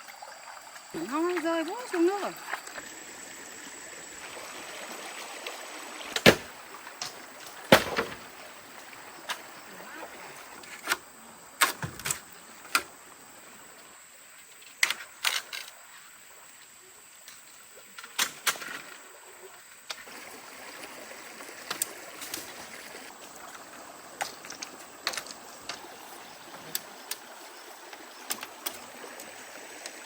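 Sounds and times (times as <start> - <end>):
hiss of moving water: 0.0 - 11.6, 12.2 - 30.0.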